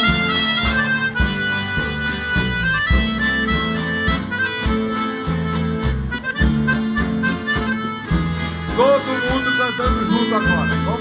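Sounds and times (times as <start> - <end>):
live band playing instrumental: 0.0 - 11.0
pulsing bass beat: 0.0 - 11.0
reedy lead melody: 0.0 - 11.0.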